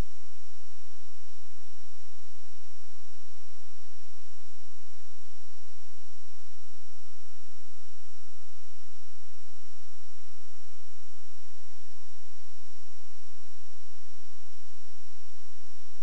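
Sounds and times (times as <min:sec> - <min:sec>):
electrical hum and hiss: 0:00.0 - 0:16.0
faint thin whines: 0:00.0 - 0:16.0.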